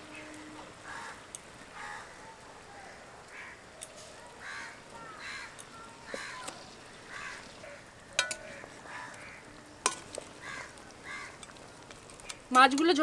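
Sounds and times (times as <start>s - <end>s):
birds calling: 0.0s - 12.6s.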